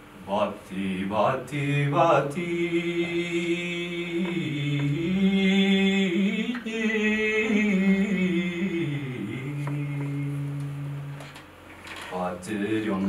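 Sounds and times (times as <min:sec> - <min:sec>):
man singing unaccompanied: 0:00.2 - 0:11.4, 0:12.0 - 0:13.0.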